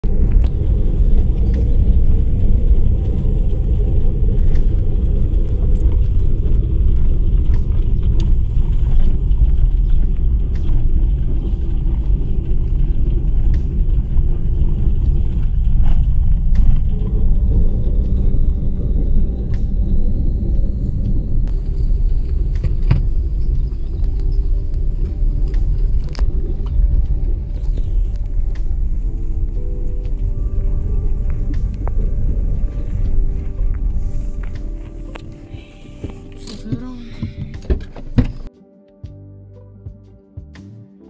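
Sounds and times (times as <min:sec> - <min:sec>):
tyre and engine rumble: 0:00.0 - 0:38.5.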